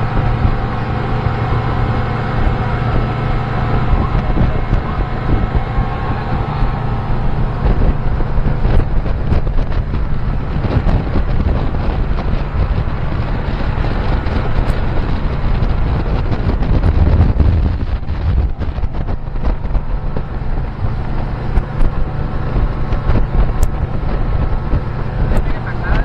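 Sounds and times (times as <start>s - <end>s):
outboard motor running: 0.0s - 26.0s
wind buffeting microphone: 0.0s - 26.0s.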